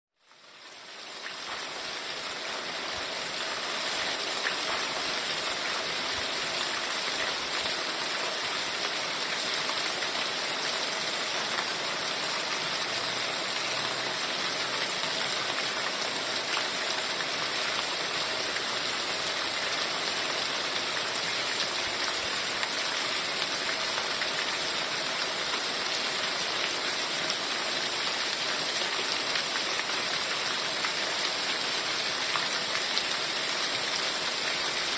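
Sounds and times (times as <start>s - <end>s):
heavy rain: 0.3s - 34.9s.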